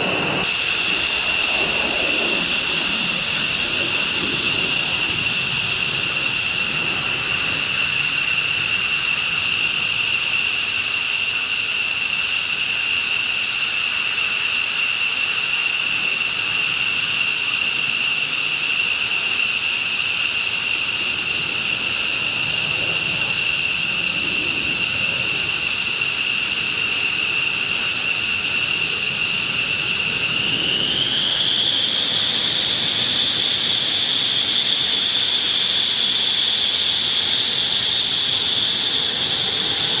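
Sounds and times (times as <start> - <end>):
jet turbine engine whine: 0.0 - 40.0.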